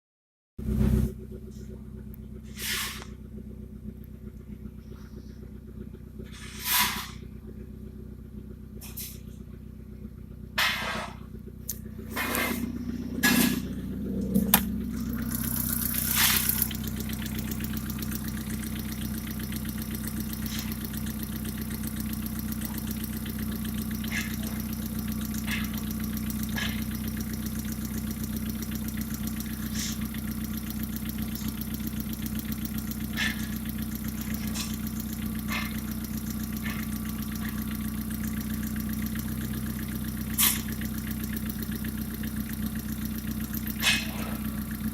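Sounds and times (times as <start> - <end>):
car engine starting and idling: 0.6 - 44.9.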